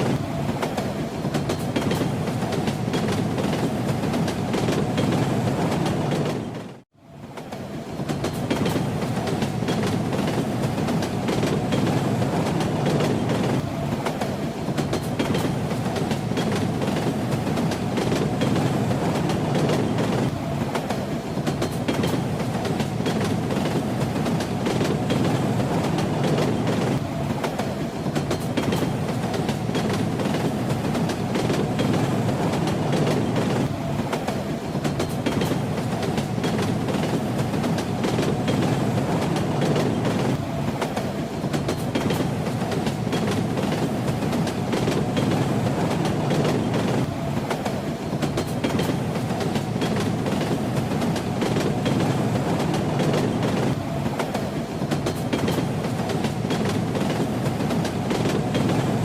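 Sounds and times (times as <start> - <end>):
train rumbling: 0.0 - 59.0
wheels clacking over rail joints: 7.4 - 59.0.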